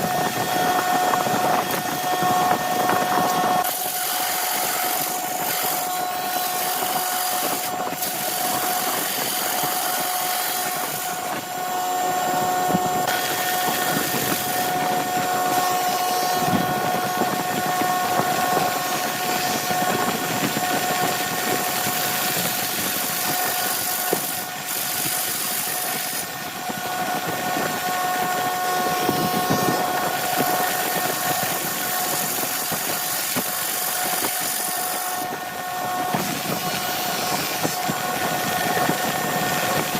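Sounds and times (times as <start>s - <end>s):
hiss of spinning blank being worked: 0.0s - 39.9s
lathe whining: 0.0s - 39.9s.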